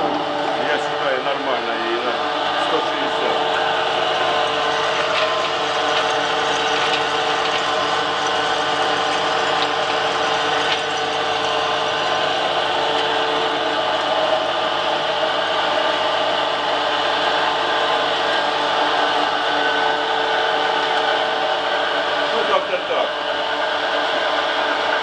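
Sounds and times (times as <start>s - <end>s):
pellet mill whining: 0.0s - 25.0s.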